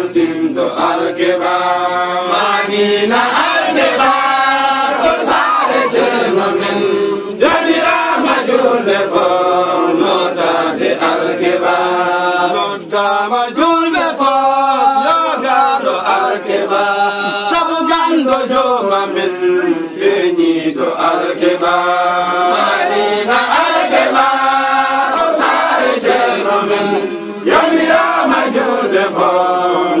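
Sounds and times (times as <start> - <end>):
men chanting together: 0.0 - 30.0.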